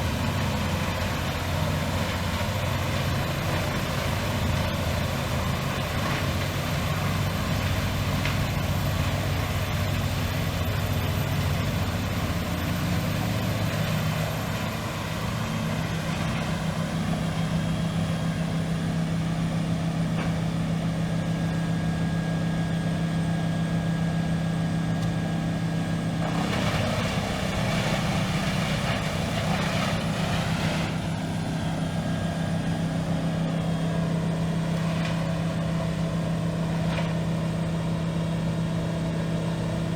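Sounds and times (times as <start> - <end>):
wood chipper diesel engine droning: 0.0 - 39.9.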